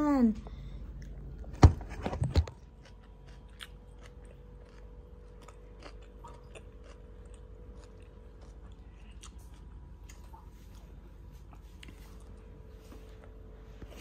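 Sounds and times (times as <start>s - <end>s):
low steady hum: 0.0s - 14.0s
faint chewing with crunches: 0.5s - 14.0s.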